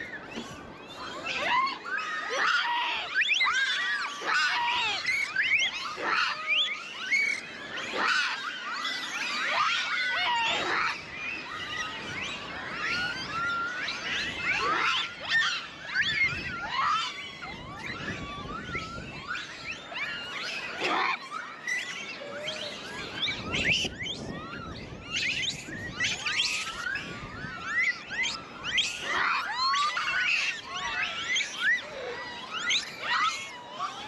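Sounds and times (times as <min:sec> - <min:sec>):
monkeys calling: 0:00.0 - 0:34.0.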